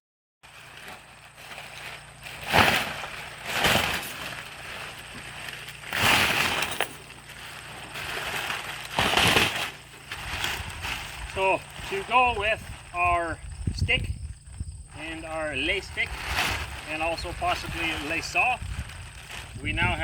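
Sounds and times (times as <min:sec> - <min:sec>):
plastic tarp crinkling: 0:00.4 - 0:20.0.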